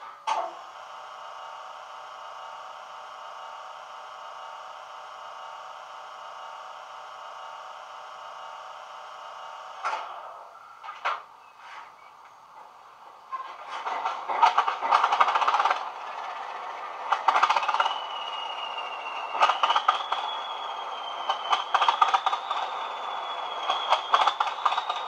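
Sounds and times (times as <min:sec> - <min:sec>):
model locomotive engine whirring: 0:00.0 - 0:25.0.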